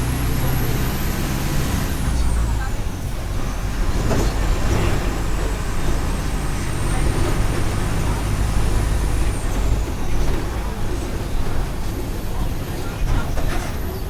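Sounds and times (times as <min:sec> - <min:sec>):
bus diesel engine rumbling: 0:00.0 - 0:14.0.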